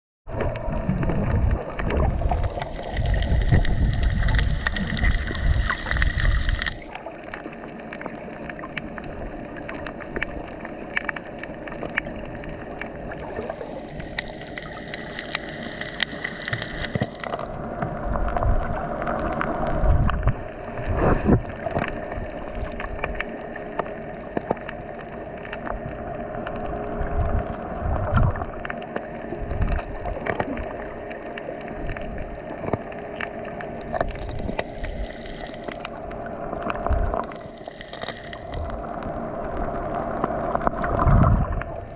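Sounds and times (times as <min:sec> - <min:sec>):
crackling clicks: 0:00.3 - 0:41.9
muffled underwater water wash: 0:00.3 - 0:41.9.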